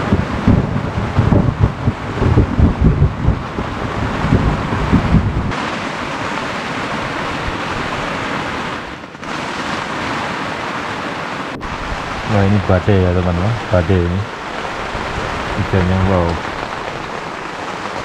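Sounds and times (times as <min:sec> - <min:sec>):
wind buffeting microphone: 0:00.0 - 0:10.4, 0:11.5 - 0:18.0
rain pouring on shelter: 0:00.0 - 0:18.0.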